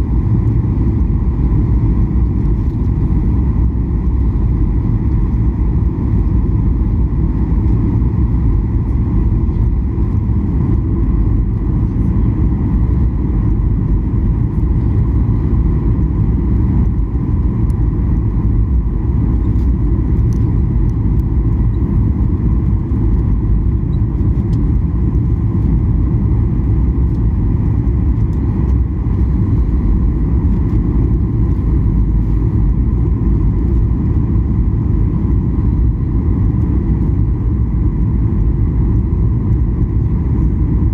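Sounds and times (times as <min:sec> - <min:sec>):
airflow over fuselage: 0:00.0 - 0:40.9
faint steady whine: 0:00.0 - 0:40.9
jet engines rumbling: 0:00.0 - 0:40.9.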